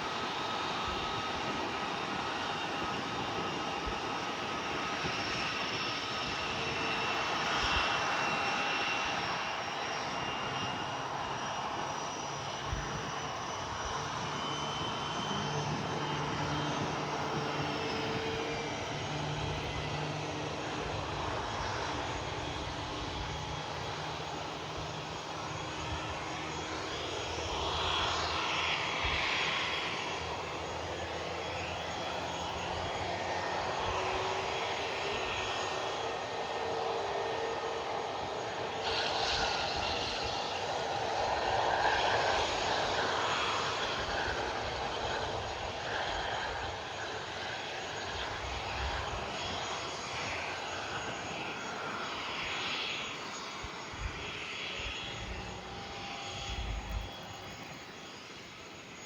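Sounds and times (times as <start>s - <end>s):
airliner engines whining: 0.0s - 59.0s.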